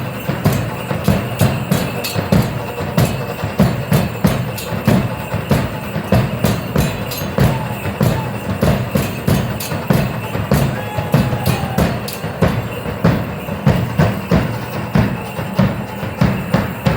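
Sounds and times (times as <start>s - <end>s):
drums beating fast rhythm: 0.0s - 16.9s.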